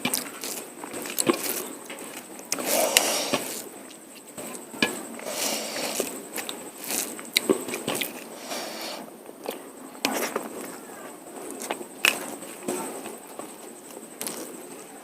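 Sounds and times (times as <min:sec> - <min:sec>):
person chewing food: 0:00.0 - 0:10.8, 0:11.4 - 0:14.8.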